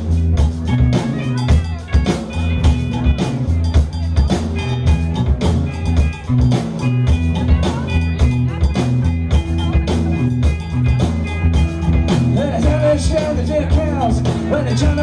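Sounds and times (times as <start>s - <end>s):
electric guitar: 0.0s - 15.0s
live rock band playing: 0.0s - 15.0s
repeating bass lines: 0.0s - 15.0s
steady drum beat: 0.0s - 15.0s.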